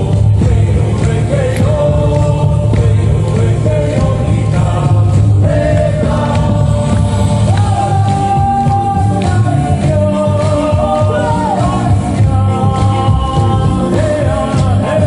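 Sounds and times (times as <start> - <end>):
steady drumbeat: 0.0 - 15.0.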